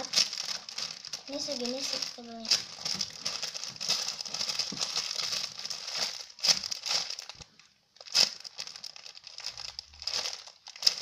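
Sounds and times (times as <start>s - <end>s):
squishy toy crinkling: 0.0s - 11.0s.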